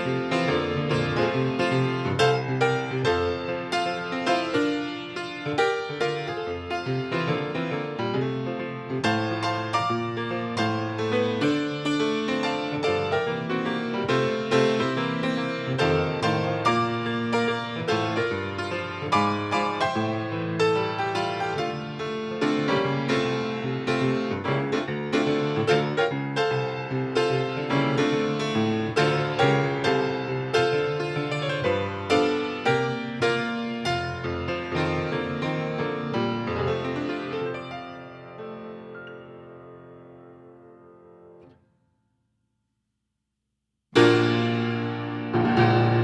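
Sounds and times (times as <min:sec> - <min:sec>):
solo piano music: 0:00.0 - 0:41.8, 0:44.0 - 0:46.0.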